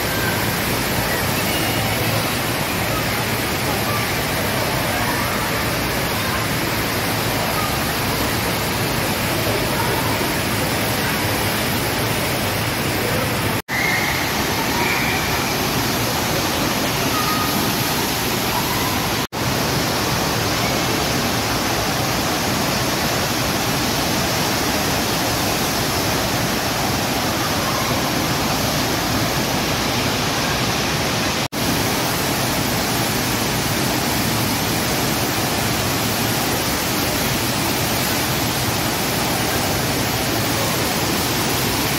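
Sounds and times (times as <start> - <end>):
water rushing: 0.0 - 41.9.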